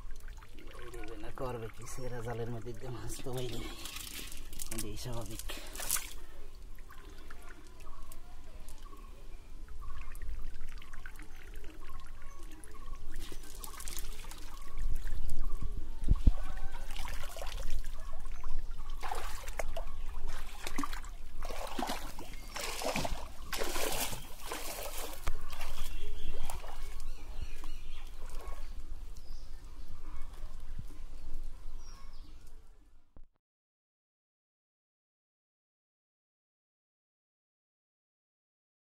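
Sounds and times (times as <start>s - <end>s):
pond water splashing and trickling: 0.0s - 31.8s.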